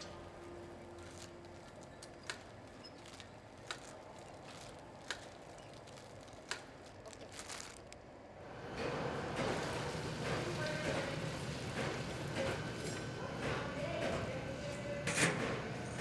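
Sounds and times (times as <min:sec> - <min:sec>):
low factory hum: 0:00.0 - 0:16.0.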